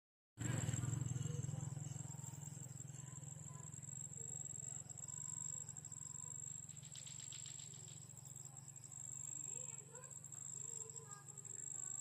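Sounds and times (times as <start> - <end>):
insect trill: 0.4 - 12.0.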